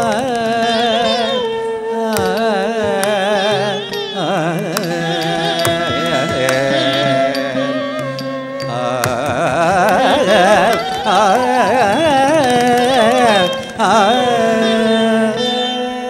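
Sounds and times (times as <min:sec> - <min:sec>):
ornamented melody line: 0:00.0 - 0:16.0.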